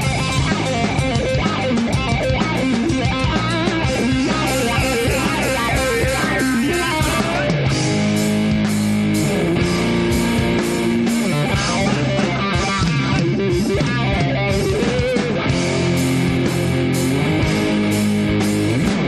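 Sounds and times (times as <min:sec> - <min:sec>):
bass: 0:00.0 - 0:19.0
distorted electric guitar lead: 0:00.0 - 0:19.0
drums: 0:00.0 - 0:19.0.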